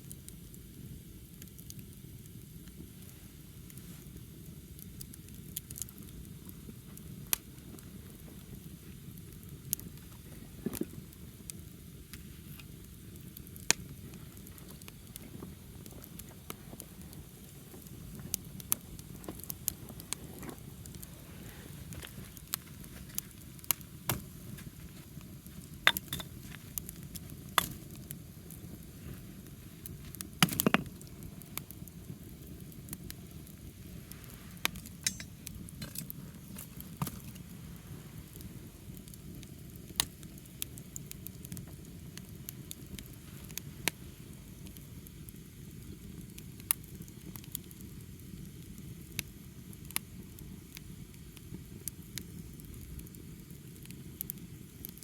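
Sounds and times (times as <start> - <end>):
fire crackling and popping: 0.0 - 55.0
low rush of flame: 0.0 - 55.0.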